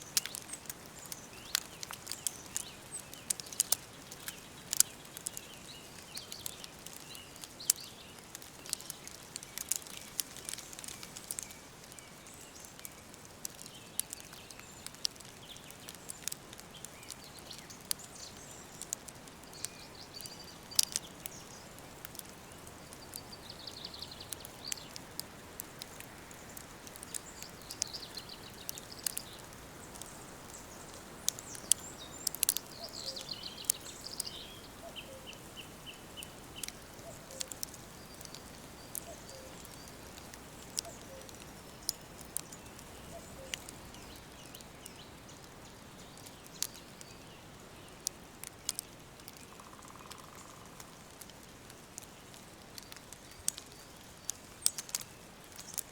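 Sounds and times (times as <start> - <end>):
birds singing faintly: 0.0 - 55.9
wood fire crackling and popping: 0.0 - 55.9.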